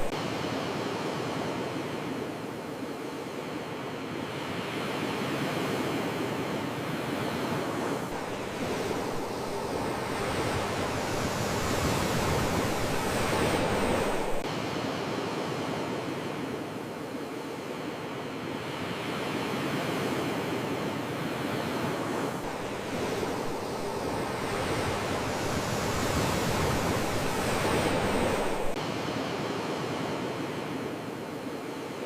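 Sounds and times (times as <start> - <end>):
sea waves washing onto shore: 0.0 - 32.0.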